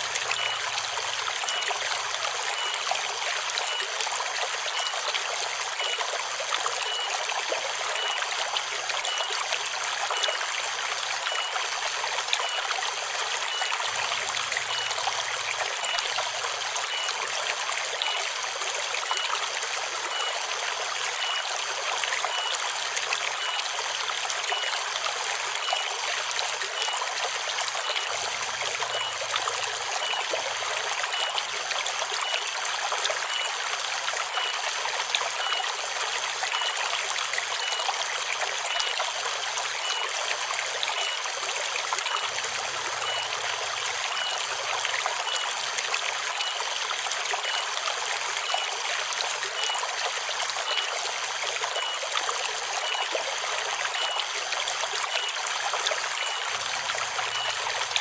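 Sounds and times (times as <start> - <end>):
river babbling over stones: 0.0 - 58.0.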